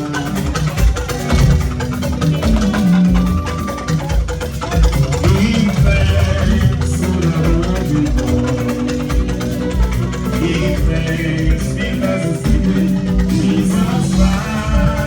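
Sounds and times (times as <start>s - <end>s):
guitar: 0.0s - 15.0s
person singing: 0.0s - 15.0s
steady drum beat: 0.0s - 15.0s.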